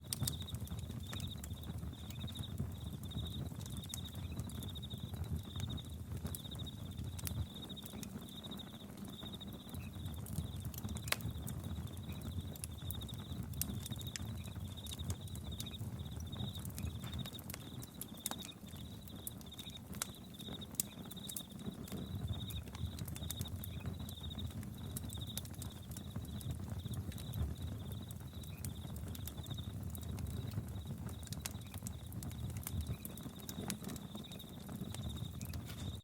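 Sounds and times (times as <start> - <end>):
campfire crackling and popping: 0.0 - 36.0
crickets chirping: 0.2 - 36.0.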